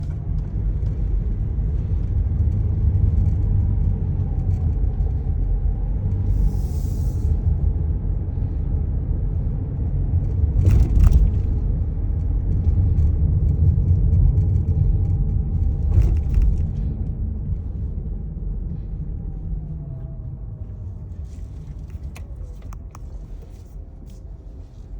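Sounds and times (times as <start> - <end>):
freight train rumbling: 0.0 - 24.9.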